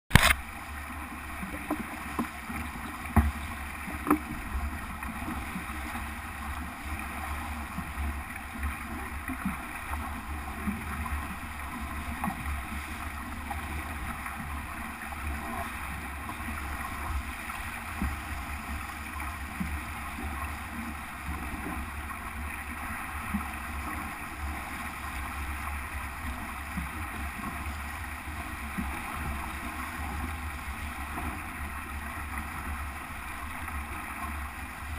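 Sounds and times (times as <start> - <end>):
water rushing along hull: 0.1 - 34.9.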